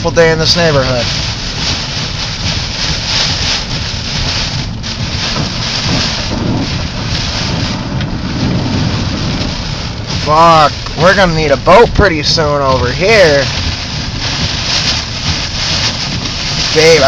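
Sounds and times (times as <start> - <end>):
heavy rain on a car: 0.0 - 17.0
tyres driving through floodwater: 0.0 - 17.0.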